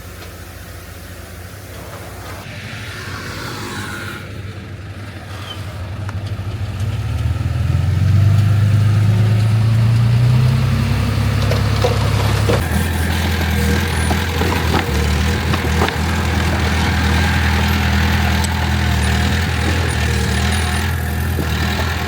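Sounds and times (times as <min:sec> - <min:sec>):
heavy diesel engine humming: 0:00.0 - 0:22.0.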